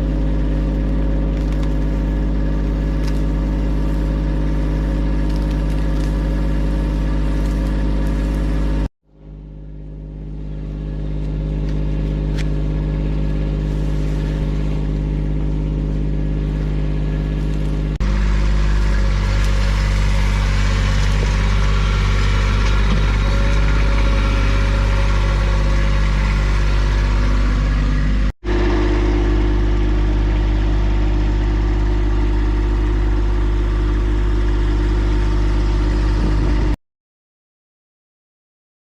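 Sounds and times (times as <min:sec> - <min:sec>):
engine running steadily: 0:00.0 - 0:36.8.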